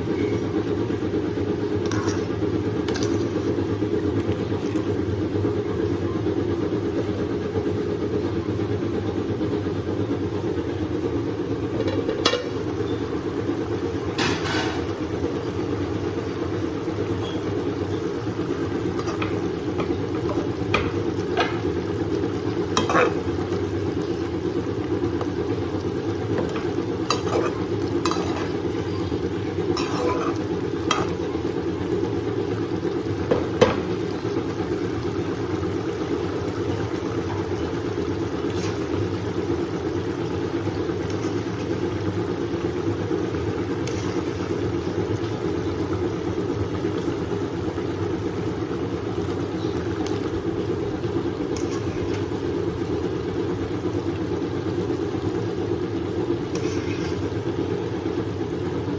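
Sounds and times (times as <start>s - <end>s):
low rumble of stovetop cooking: 0.0s - 58.9s.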